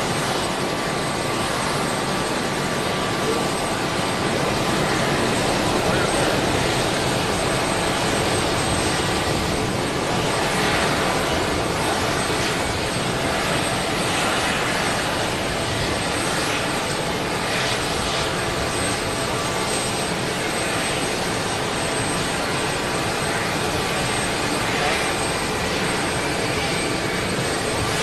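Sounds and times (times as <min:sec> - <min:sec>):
high turbine whine: 0:00.0 - 0:28.0
turbine engines rushing: 0:00.0 - 0:28.0.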